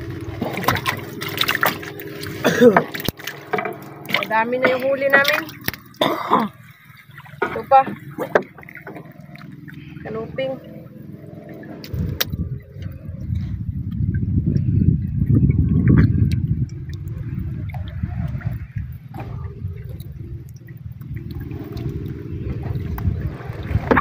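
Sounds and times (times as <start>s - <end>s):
water sloshing against boat hull: 0.0s - 24.0s.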